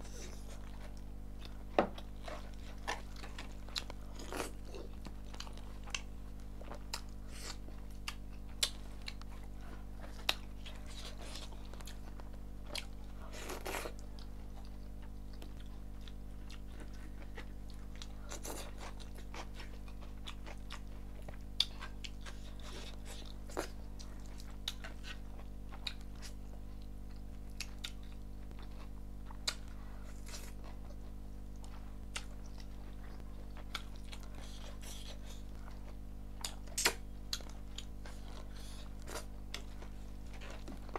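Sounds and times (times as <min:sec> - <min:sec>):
person chewing food: 0:00.0 - 0:40.9
steady low hum: 0:00.0 - 0:40.9.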